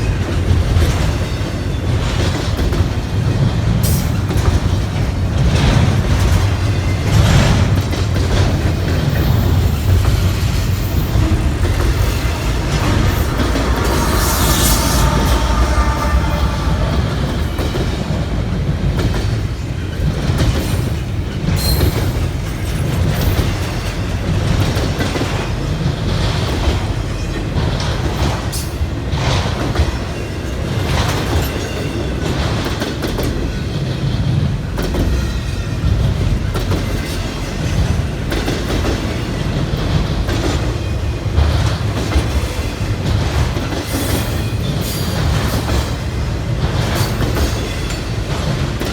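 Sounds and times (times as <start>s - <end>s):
freight train rumbling: 0.0s - 48.9s.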